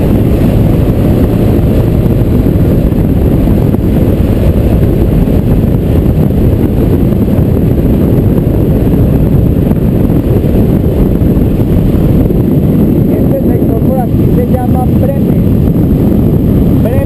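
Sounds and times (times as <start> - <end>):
motorcycle engine running: 0.0 - 17.0
wind rumbling on microphone: 0.0 - 17.0.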